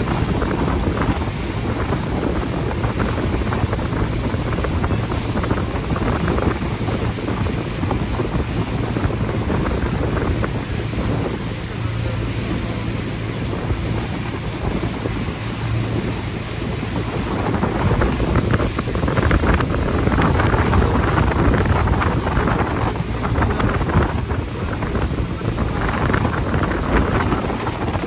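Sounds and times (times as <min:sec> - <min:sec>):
boat engine drone: 0:00.0 - 0:28.0
water rushing past hull: 0:00.0 - 0:28.0
wind buffeting microphone: 0:00.0 - 0:28.0.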